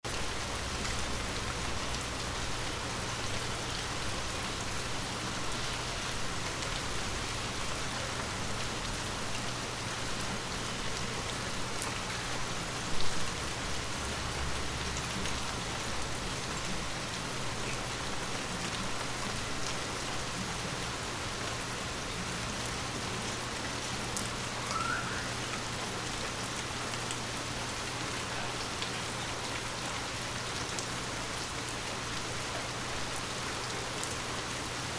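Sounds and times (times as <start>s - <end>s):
rain pattering: 0.0s - 34.9s.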